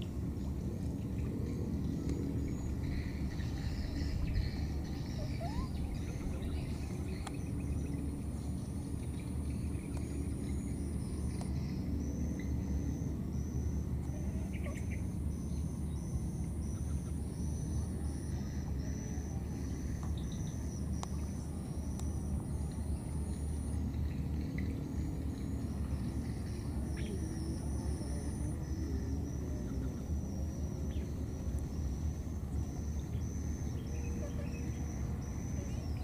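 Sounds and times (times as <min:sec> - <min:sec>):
high-pitched insect trill: 0:01.4 - 0:36.0.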